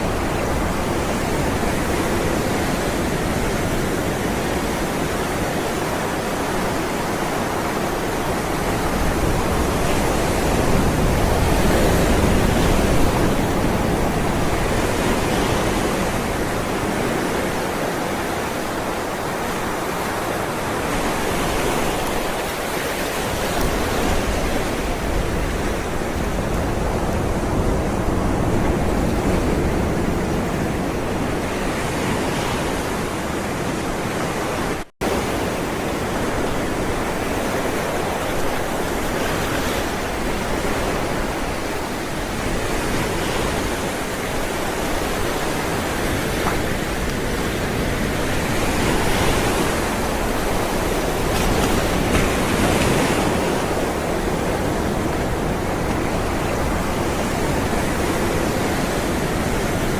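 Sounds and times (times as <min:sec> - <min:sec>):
ocean waves surf: 0:00.0 - 0:59.9.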